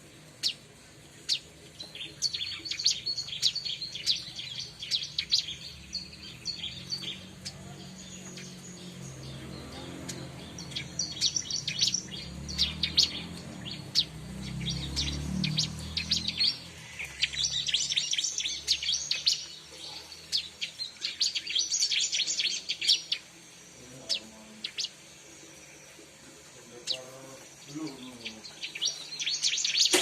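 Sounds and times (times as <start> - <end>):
bird chirping rapidly: 0.0 - 26.0, 26.8 - 30.0.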